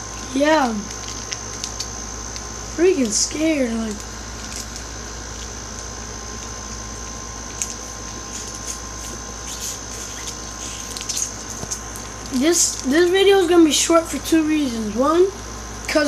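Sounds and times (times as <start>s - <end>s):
faint high whine: 0.0s - 16.0s
low electrical hum: 0.0s - 16.0s.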